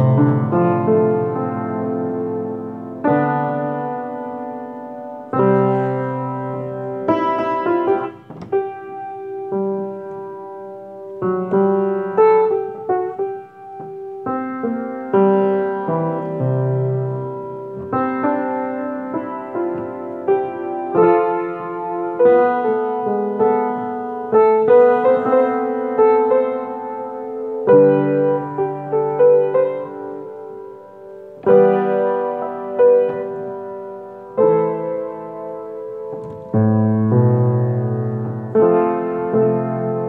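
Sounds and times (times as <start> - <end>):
solo piano playing slowly: 0.0 - 40.0.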